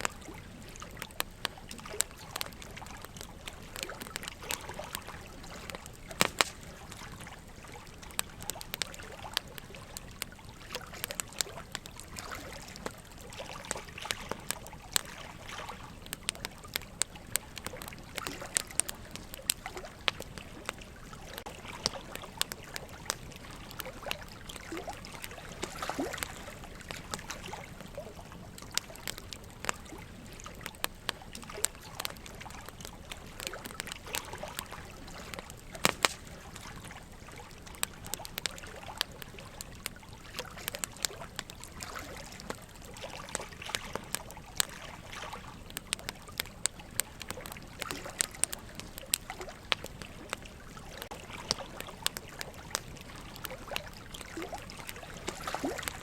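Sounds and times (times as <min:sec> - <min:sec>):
running water trickling: 0:00.0 - 0:56.0
wood logs crackling in fireplace: 0:00.0 - 0:56.0.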